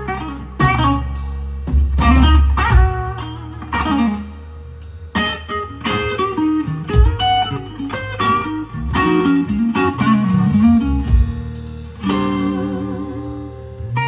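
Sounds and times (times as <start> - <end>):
electric guitar blues lead: 0.0 - 14.0.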